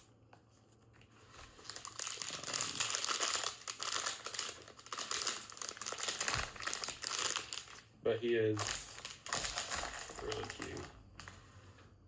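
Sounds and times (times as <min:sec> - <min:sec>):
plastic packaging crinkling: 0:01.1 - 0:07.9, 0:08.5 - 0:11.4.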